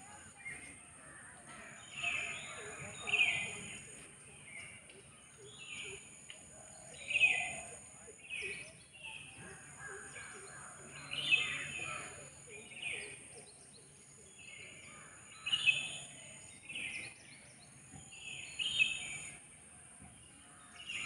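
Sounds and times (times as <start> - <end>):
birds calling: 0.0 - 19.4.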